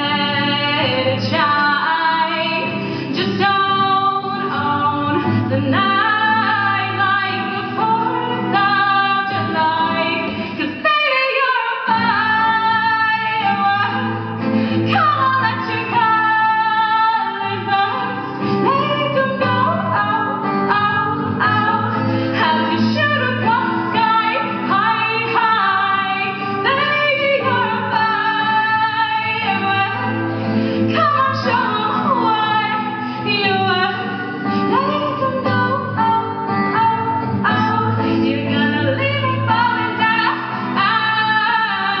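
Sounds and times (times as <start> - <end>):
acoustic guitar: 0.0 - 42.0
woman singing: 0.0 - 42.0.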